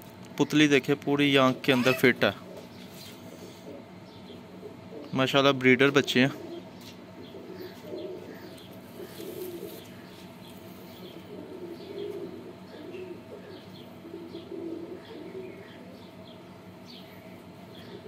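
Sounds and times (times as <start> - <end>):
pigeons cooing: 1.5 - 18.0.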